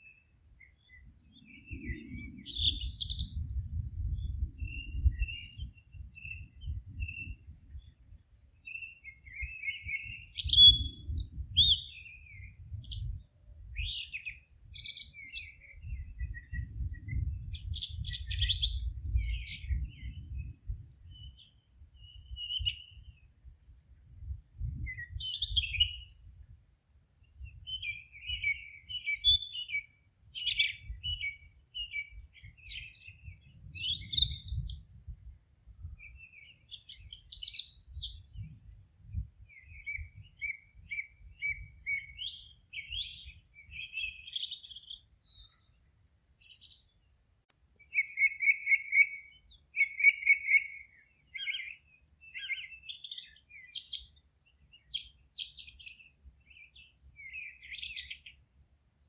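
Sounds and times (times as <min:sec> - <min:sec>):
songbirds singing and chirping: 0:00.0 - 0:59.0.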